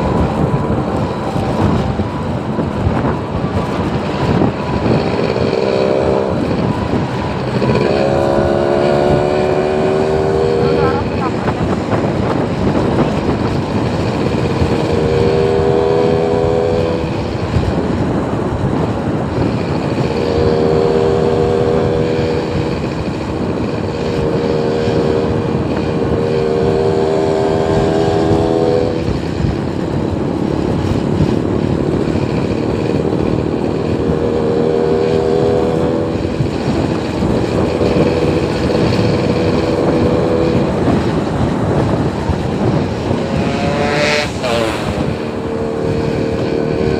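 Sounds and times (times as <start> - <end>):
droning engine: 0.0 - 46.9
traffic noise: 0.0 - 46.9.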